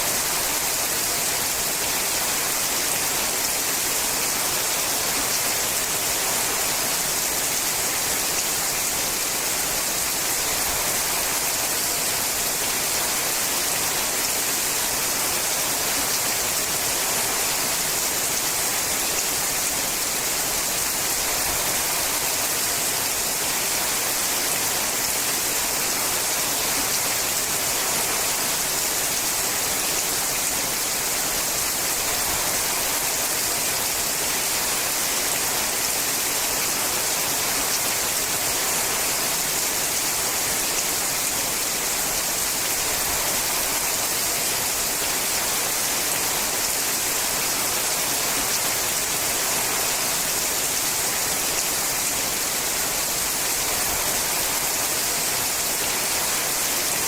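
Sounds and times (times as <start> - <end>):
rain on a metal roof: 0.0 - 57.0.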